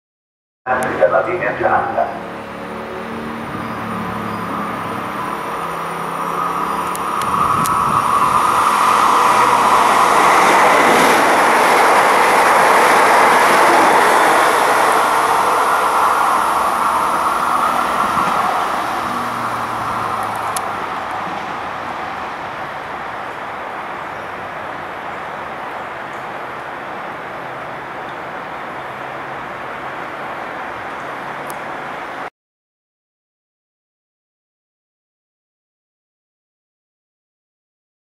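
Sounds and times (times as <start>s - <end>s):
train passing: 0.7s - 32.3s.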